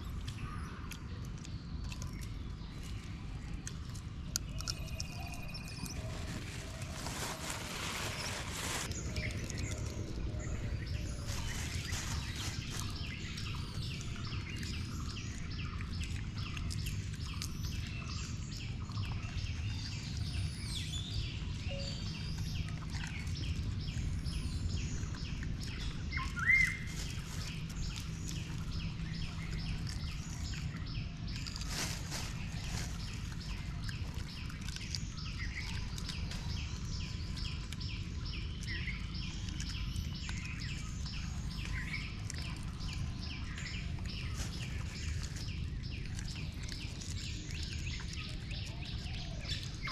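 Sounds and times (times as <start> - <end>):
small birds chirping: 0.0 - 49.9
steady low rumble: 0.0 - 49.9.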